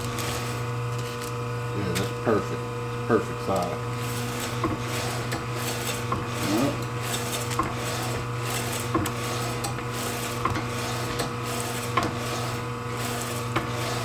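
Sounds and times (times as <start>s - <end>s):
deli slicer motor hum: 0.0s - 14.0s.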